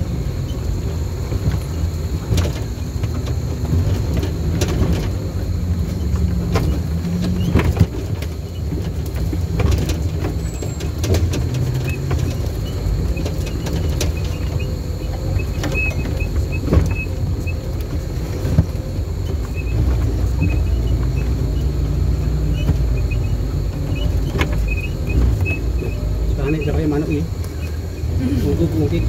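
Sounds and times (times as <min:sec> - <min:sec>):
vehicle engine running at low revs: 0:00.0 - 0:29.0
vehicle knocks and rattles over bumps: 0:00.0 - 0:29.0.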